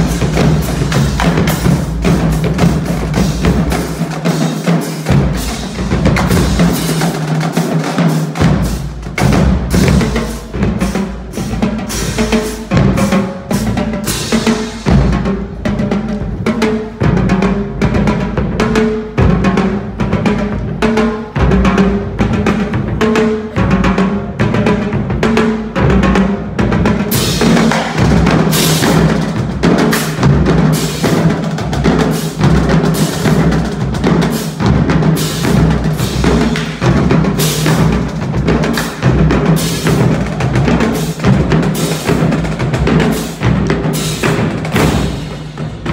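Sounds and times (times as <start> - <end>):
marching drumline playing: 0.0 - 45.9.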